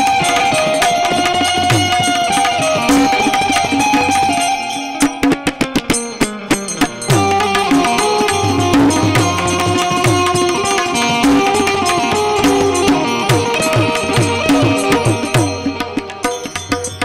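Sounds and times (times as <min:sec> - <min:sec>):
hand drum beat: 0:00.0 - 0:17.0
harmonium melody: 0:00.0 - 0:17.0.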